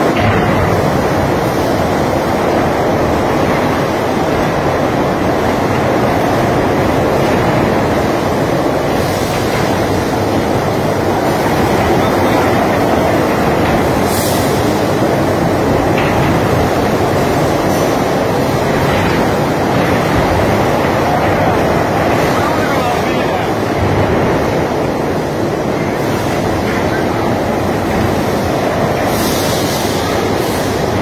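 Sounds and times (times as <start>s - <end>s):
bumper cars rolling rumble: 0.0s - 31.0s.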